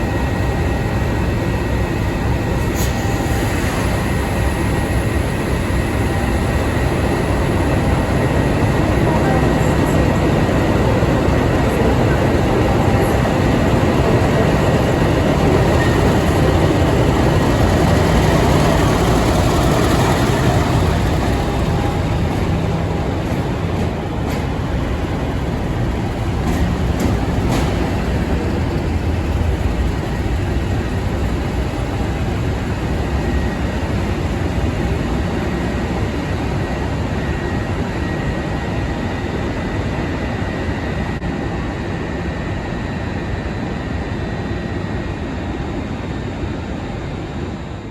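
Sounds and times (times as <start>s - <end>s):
train rumble and track noise: 0.0s - 47.9s.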